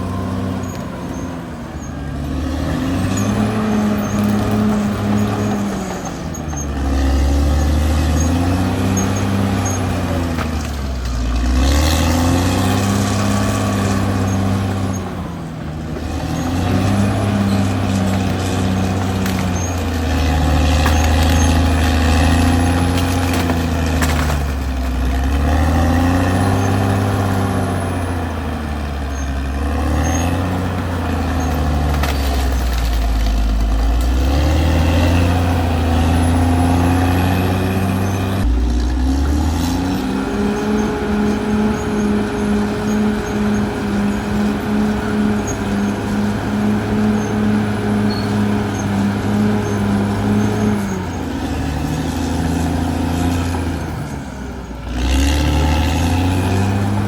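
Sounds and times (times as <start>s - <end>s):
bulldozer diesel engine working: 0.0s - 57.0s.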